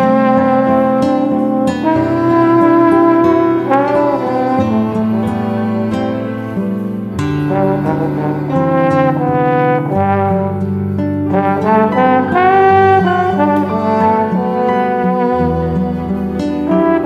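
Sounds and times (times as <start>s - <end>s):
backing track: 0.0s - 17.0s
slide trombone melody: 0.0s - 17.0s.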